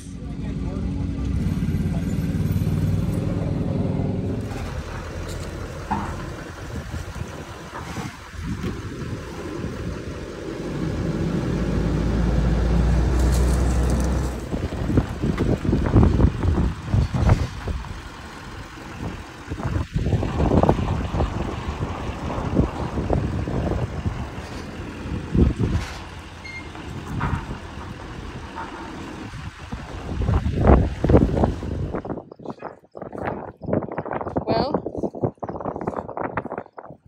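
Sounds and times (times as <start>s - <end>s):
truck engine running: 0.0s - 32.3s.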